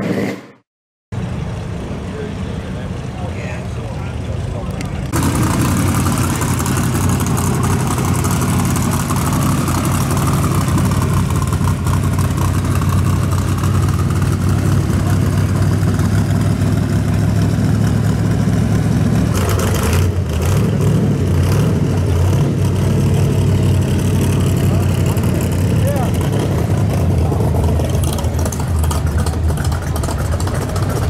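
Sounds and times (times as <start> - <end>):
engine and exhaust rumbling: 1.1 - 31.0.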